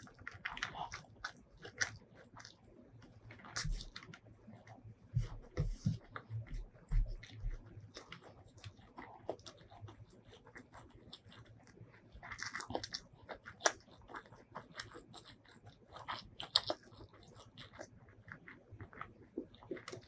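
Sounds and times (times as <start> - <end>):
chewing with wet mouth clicks: 0.0 - 20.0.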